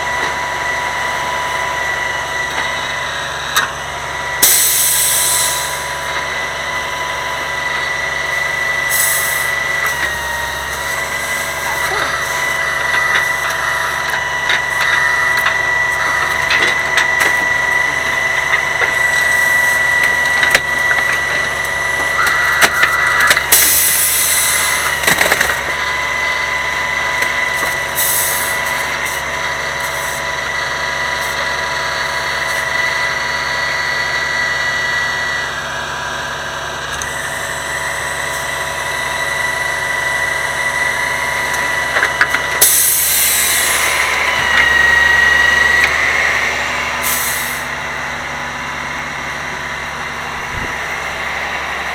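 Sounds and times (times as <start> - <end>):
garbage truck engine whine: 0.0 - 51.9.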